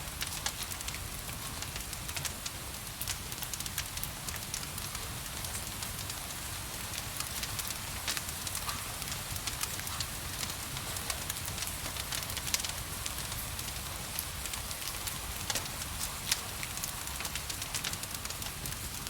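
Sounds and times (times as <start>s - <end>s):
gentle rain hiss: 0.0s - 19.0s
wood fire crackling and popping: 0.0s - 19.0s.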